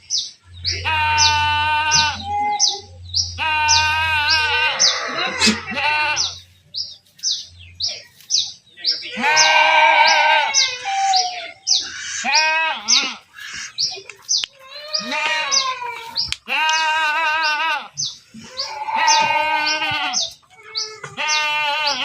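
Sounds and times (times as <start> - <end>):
goats bleating: 0.7 - 6.5, 9.0 - 13.9, 14.6 - 22.0.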